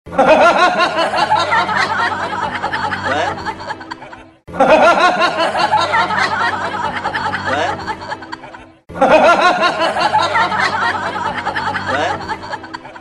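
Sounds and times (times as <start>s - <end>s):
high-pitched giggling laughter: 0.2s - 13.0s
music bed: 0.2s - 13.0s.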